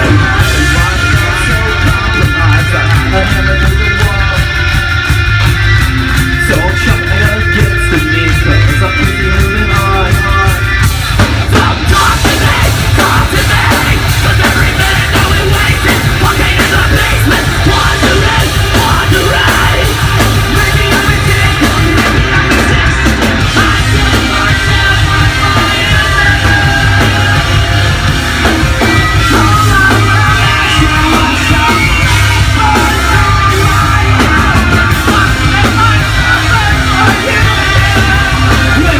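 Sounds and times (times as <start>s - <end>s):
electric guitar: 0.0s - 38.9s
live rock band: 0.0s - 38.9s.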